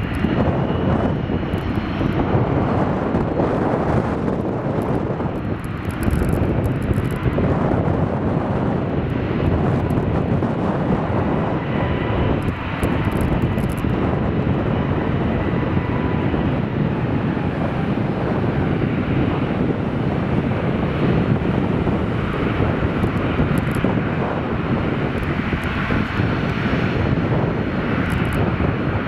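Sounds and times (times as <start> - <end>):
faint engine whine: 0.0 - 29.0
jet engines roaring: 0.0 - 29.0.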